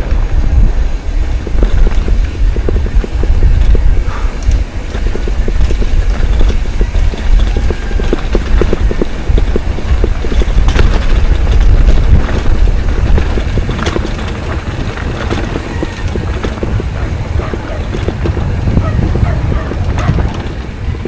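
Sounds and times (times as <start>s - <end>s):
bike rattling and clicking: 0.0s - 21.0s
wind buffeting microphone: 0.0s - 21.0s.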